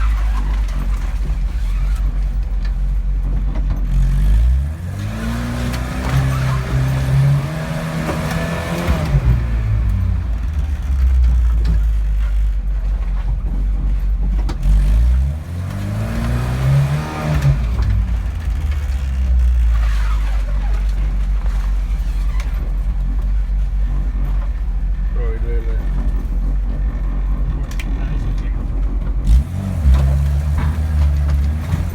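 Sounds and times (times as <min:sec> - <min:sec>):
vehicle engine revving: 0:00.0 - 0:31.9.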